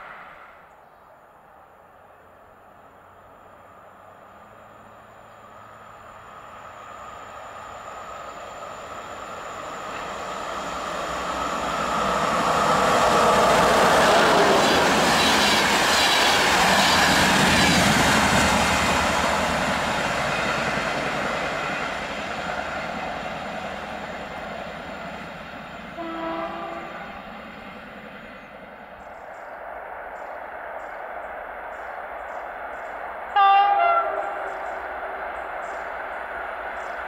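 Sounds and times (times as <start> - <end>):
express train passing: 0.0 - 37.0.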